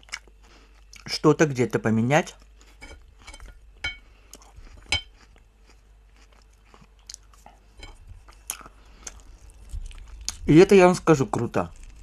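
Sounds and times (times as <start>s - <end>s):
chewing soft food: 0.0s - 1.1s, 2.3s - 12.0s.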